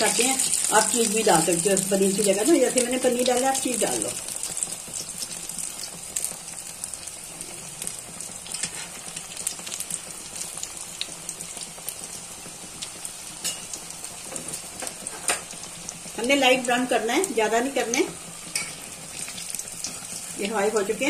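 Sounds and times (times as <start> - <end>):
deep-frying sizzle with pops: 0.0 - 21.0.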